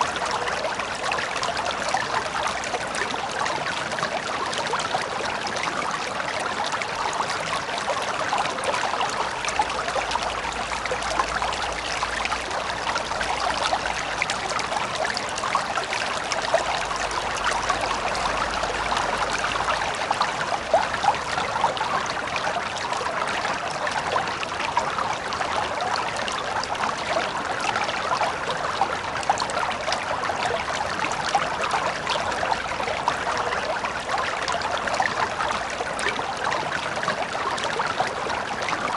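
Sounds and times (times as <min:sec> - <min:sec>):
shallow river babbling: 0:00.0 - 0:38.9.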